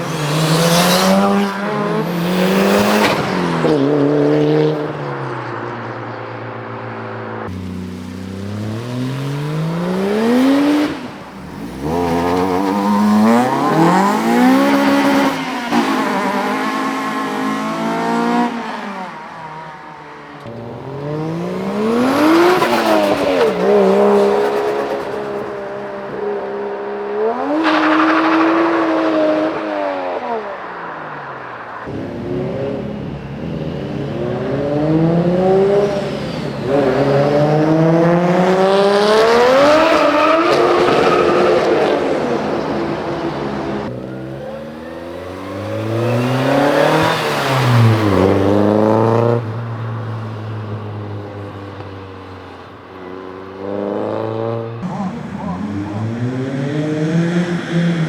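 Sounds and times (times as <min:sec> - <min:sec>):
car engines revving and accelerating: 0:00.0 - 0:58.0.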